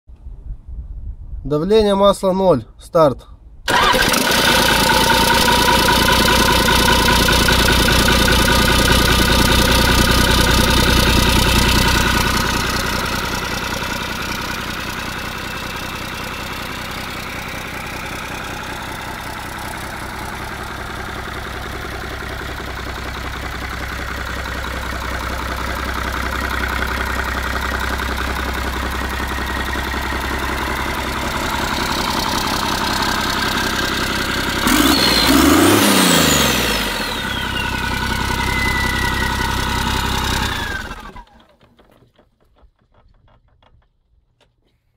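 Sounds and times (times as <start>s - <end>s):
diesel engine idling: 3.7s - 41.5s.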